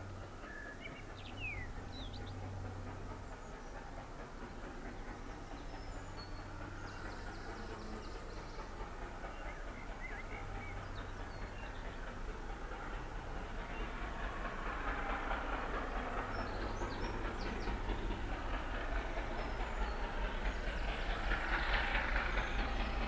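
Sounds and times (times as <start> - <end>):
distant steam locomotive rumble: 0.0 - 23.0.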